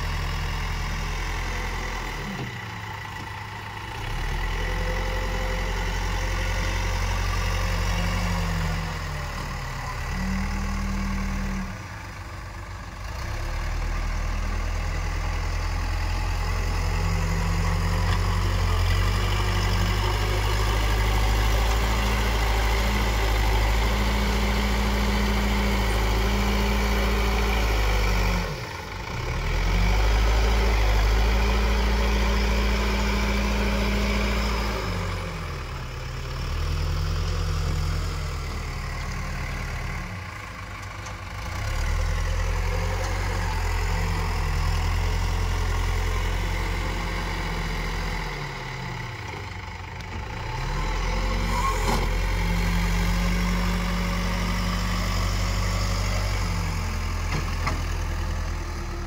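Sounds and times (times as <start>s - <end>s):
backhoe diesel engine under load: 0.0s - 59.0s.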